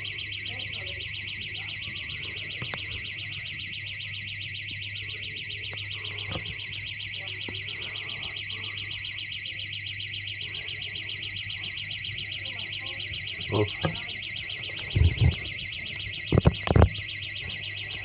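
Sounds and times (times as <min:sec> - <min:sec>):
high-pitched electronic alarm pulsing: 0:00.0 - 0:18.0
low steady hum: 0:00.0 - 0:18.0.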